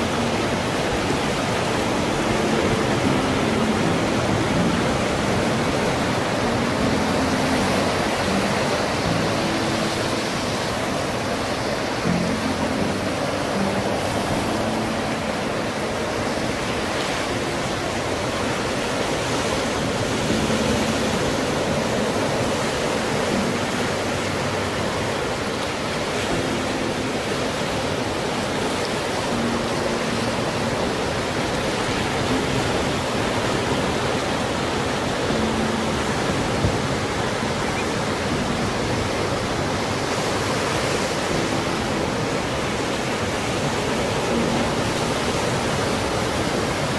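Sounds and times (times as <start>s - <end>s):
ocean surf breaking on rocks: 0.0s - 46.9s.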